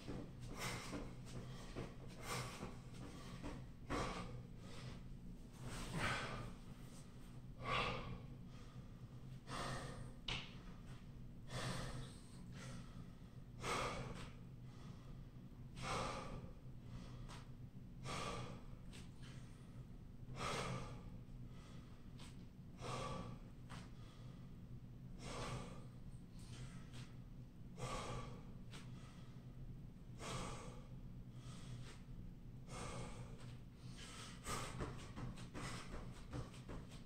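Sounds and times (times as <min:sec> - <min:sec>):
man breathing hard: 0:00.0 - 0:37.0.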